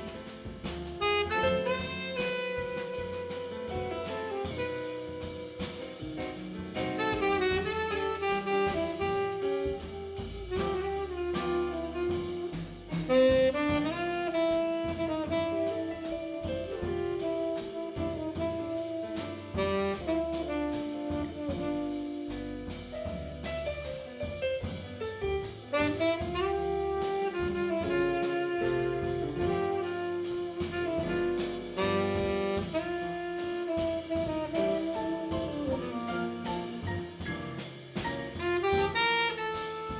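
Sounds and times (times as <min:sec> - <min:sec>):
bass: 0:00.0 - 0:39.9
saxophone melody: 0:01.0 - 0:05.5, 0:07.0 - 0:22.2, 0:25.7 - 0:36.8, 0:38.4 - 0:39.9.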